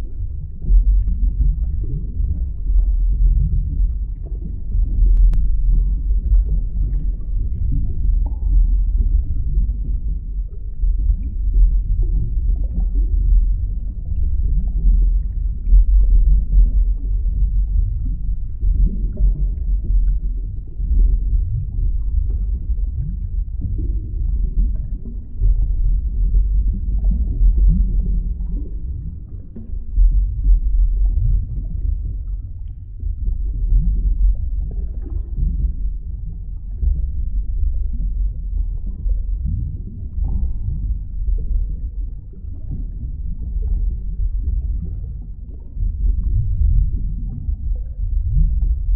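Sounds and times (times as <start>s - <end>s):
muffled underwater rumble: 0.0s - 48.9s.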